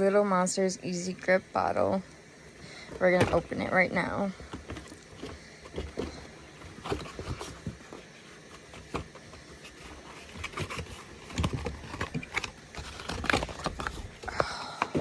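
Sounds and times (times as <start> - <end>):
packaging scrapes and rustles: 2.3 - 15.0.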